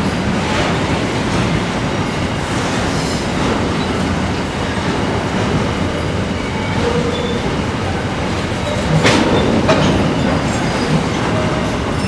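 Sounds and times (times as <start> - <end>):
steel wheels on rail: 0.0 - 12.0.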